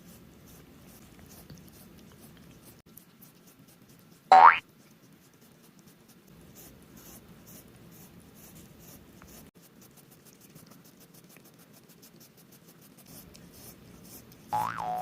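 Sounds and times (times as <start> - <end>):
cat tongue licking skin: 0.2 - 14.5.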